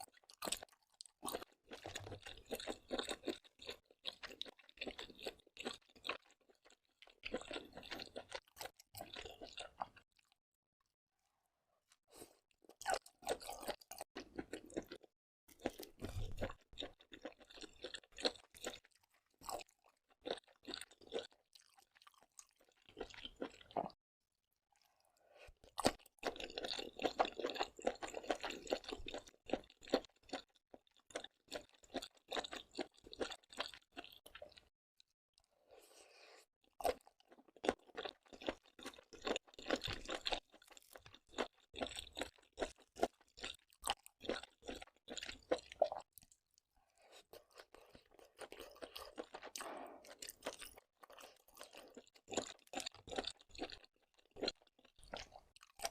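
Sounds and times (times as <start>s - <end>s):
chewing crunchy seafood: 0.0s - 10.4s, 11.8s - 24.0s, 24.7s - 55.9s.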